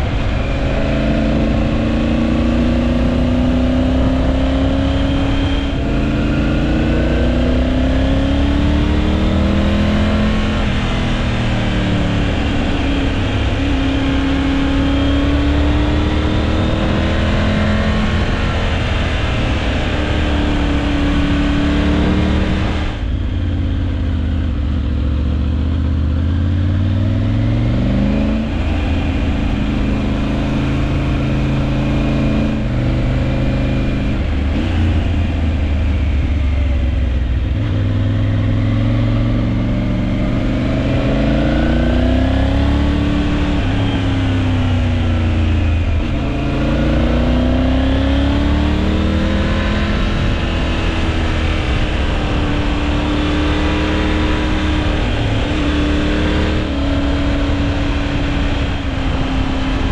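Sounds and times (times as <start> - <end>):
wind rush: 0.0 - 24.6, 26.1 - 59.9
motorcycle engine revving: 0.0 - 59.9.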